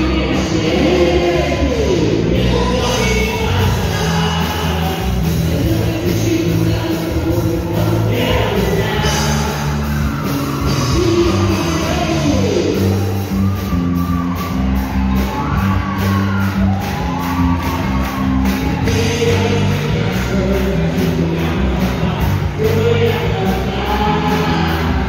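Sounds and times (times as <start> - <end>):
crowd shouting and cheering: 0.0 - 25.0
upbeat song with singing: 0.0 - 25.0.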